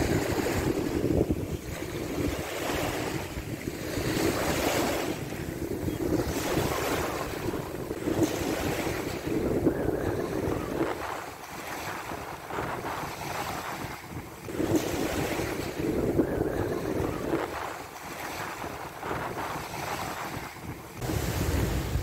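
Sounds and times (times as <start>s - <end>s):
small waves washing on beach: 0.0s - 22.0s
wind rumble on microphone: 0.0s - 22.0s.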